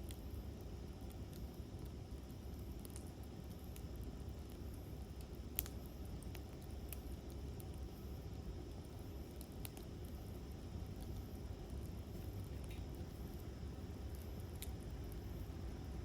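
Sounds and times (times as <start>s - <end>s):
burning wood popping: 0.0s - 15.8s
campfire crackling: 0.0s - 16.0s.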